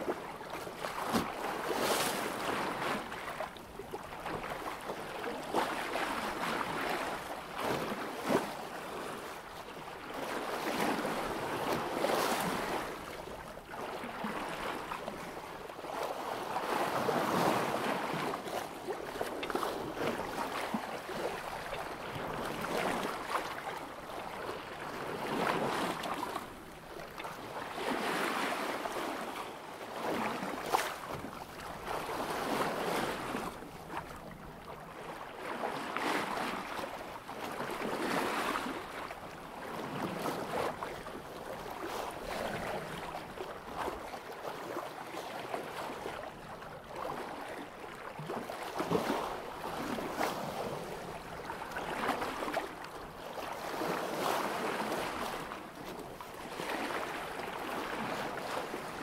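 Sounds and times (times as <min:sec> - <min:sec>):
water rushing along a boat hull: 0:00.0 - 0:59.0.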